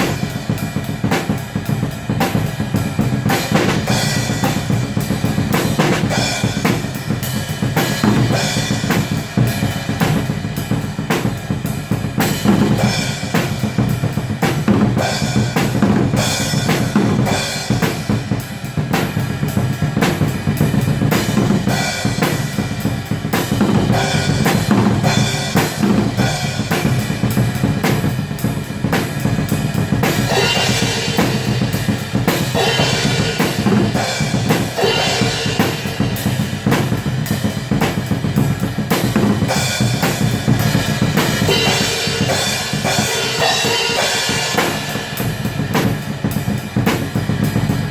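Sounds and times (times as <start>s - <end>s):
black metal music: 0.0s - 47.9s
fast dense drums: 0.0s - 47.9s.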